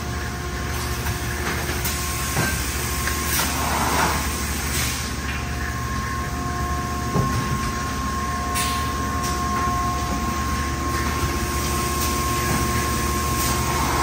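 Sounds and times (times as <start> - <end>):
machine humming: 0.0 - 14.0
high-pitched machine whine: 2.0 - 14.0.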